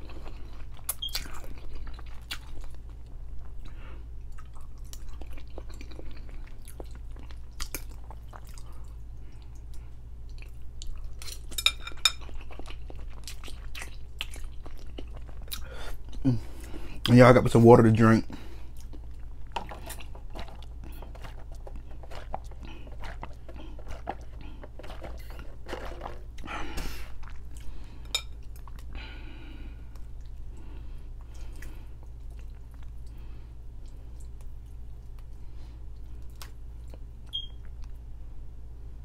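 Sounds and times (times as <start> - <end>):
person chewing noodles: 0.0 - 17.1, 18.3 - 38.0
steady low hum: 0.0 - 39.0.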